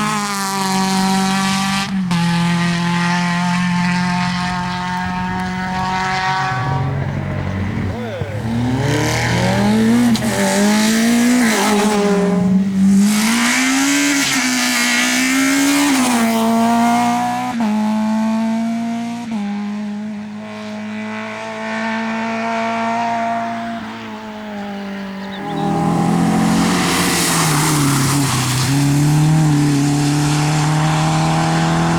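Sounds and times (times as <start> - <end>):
rally car engine revving: 0.0 - 31.9.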